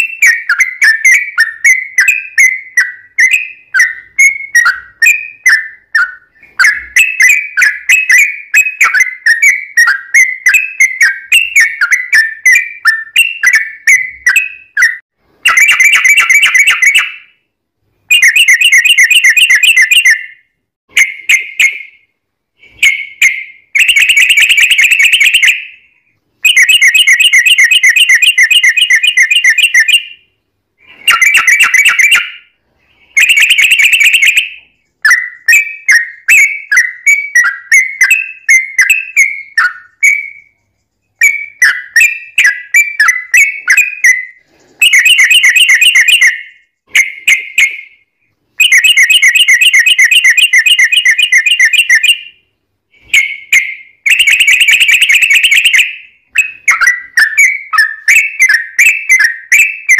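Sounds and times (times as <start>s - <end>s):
bird trilling song: 0.0s - 17.5s, 18.1s - 59.9s.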